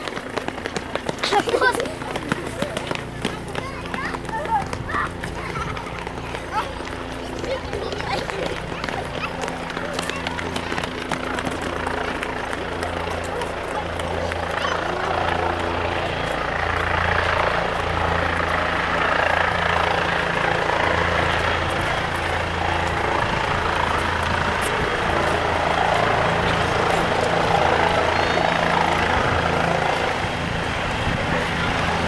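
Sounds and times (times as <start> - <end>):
helicopter rotor and engine drone: 0.0 - 32.0.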